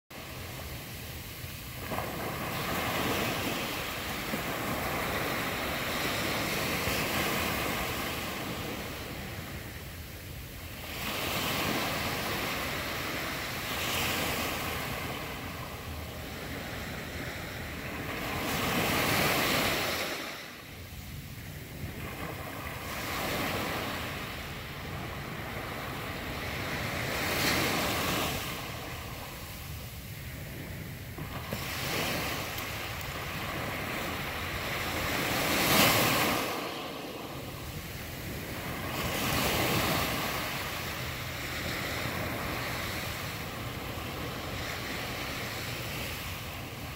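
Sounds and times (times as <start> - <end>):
small waves washing up a beach: 0.1 - 46.9.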